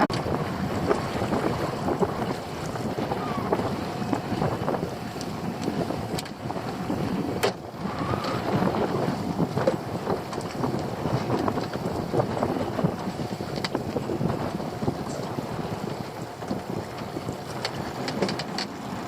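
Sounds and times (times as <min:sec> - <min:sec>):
boat engine running: 0:00.0 - 0:19.0
water: 0:00.0 - 0:19.0
wind buffeting microphone: 0:00.0 - 0:19.0.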